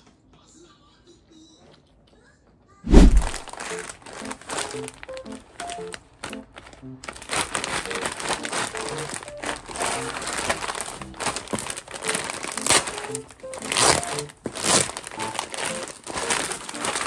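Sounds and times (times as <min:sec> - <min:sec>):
plastic packaging crinkling: 0:03.0 - 0:17.0.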